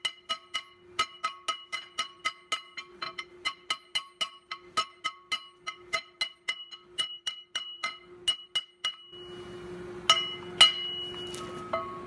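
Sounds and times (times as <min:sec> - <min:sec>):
hammer striking steel on anvil: 0:00.0 - 0:09.4, 0:10.0 - 0:12.0.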